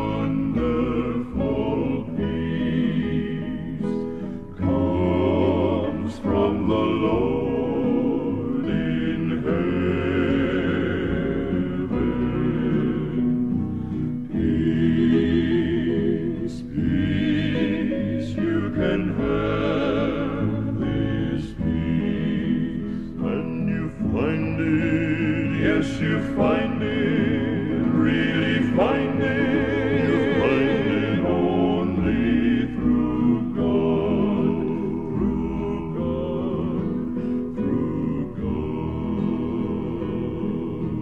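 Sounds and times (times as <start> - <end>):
male quartet singing in harmony: 0.0 - 41.0.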